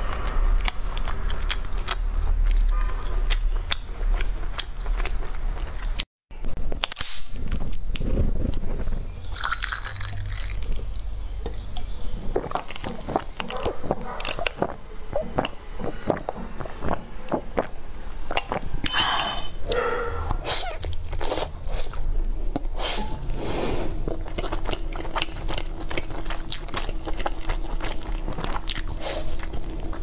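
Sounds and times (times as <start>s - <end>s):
wet chewing mouth sounds: 0.0s - 6.0s, 7.5s - 23.2s, 23.8s - 30.0s.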